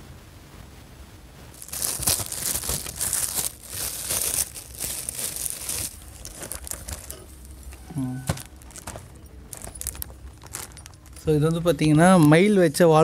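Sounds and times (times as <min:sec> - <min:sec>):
metallic gift wrap crinkling: 0:01.5 - 0:13.0.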